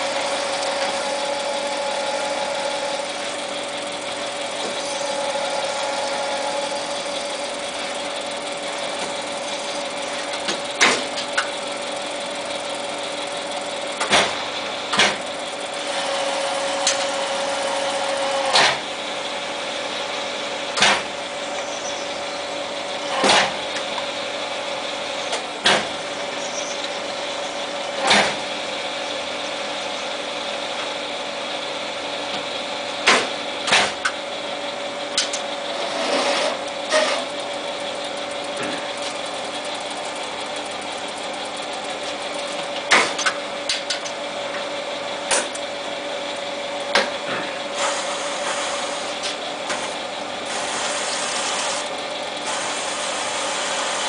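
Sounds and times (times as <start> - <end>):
lathe humming: 0.0 - 54.0.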